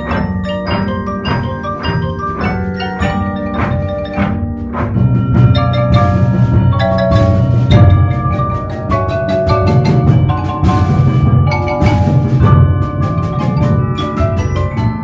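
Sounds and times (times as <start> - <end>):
glockenspiel: 0.0 - 15.0
marimba: 0.0 - 15.0
tubular chimes: 0.0 - 15.0
vibraphone: 0.0 - 15.0.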